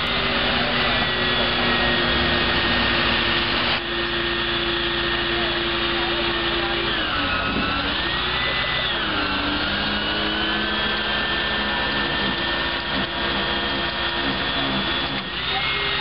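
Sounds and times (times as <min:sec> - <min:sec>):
truck engine and hydraulic pump whine: 0:00.0 - 0:16.0.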